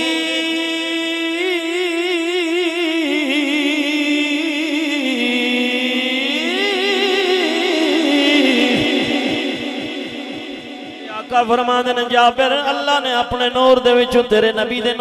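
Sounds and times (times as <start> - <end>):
man chanting with vibrato: 0.0 - 15.0.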